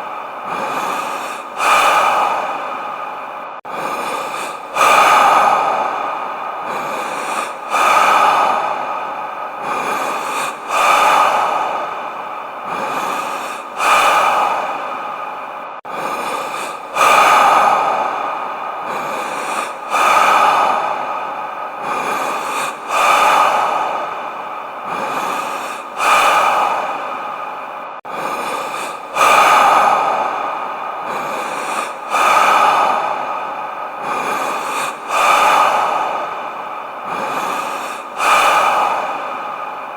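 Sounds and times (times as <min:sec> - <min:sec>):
deep breathing with reverb: 0:00.0 - 0:39.9.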